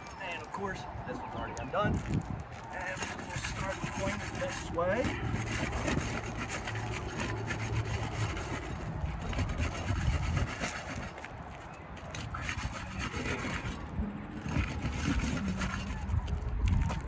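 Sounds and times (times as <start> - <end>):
tool scraping under roof shingles: 2.0 - 17.0.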